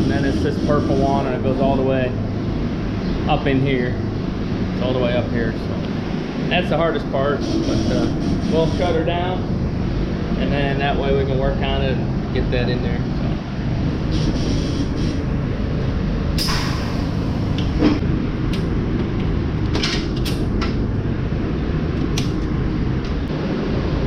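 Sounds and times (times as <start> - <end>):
low drone of machinery: 0.0 - 24.0.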